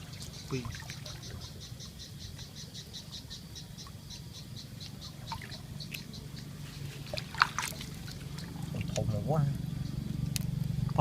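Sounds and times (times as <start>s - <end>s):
frog chirping: 0.0s - 10.2s
low steady rumble: 0.0s - 11.0s.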